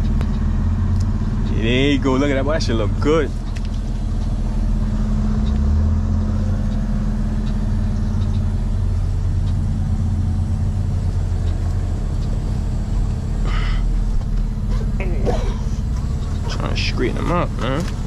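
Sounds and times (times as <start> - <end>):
deep low hum: 0.0 - 18.0
diesel truck engine running: 0.0 - 18.0.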